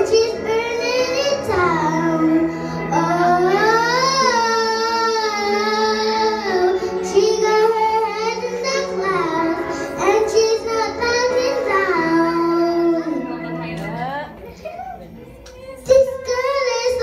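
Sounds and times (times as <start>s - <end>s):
backing track: 0.0s - 17.0s
girl singing into microphone: 0.0s - 17.0s.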